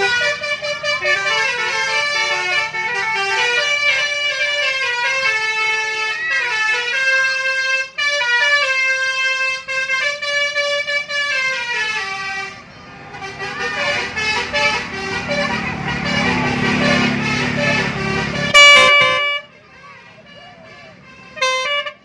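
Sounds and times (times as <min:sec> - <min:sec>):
musical horn playing a tune: 0:00.0 - 0:22.0.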